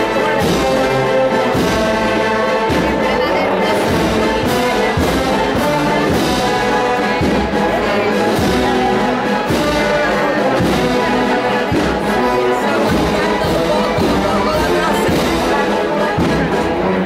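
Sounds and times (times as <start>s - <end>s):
brass band playing a march: 0.0s - 17.0s
low drum beat: 0.0s - 17.0s.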